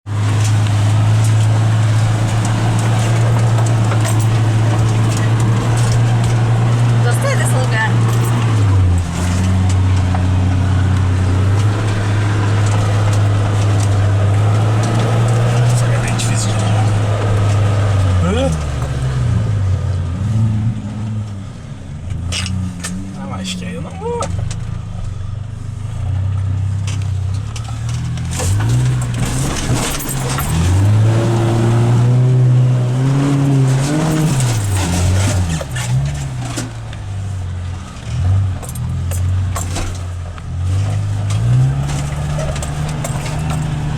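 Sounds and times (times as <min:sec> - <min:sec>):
off-road vehicle engine drone: 0:00.0 - 0:43.9.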